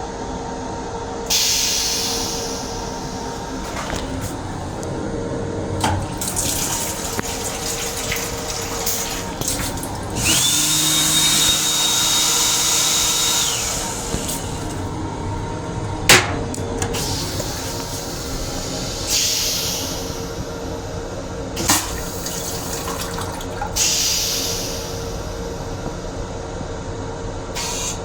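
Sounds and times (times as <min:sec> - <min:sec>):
moving train rumble: 0:01.3 - 0:26.6.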